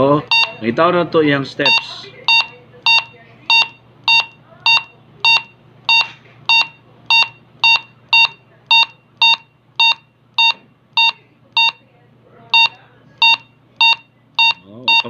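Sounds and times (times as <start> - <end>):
radio key beeps: 0.3 - 0.7, 1.6 - 11.8, 12.6 - 15.0.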